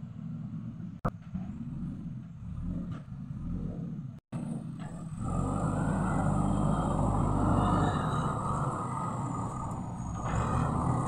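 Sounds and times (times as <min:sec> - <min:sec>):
backhoe diesel engine revving: 0:00.2 - 0:11.0.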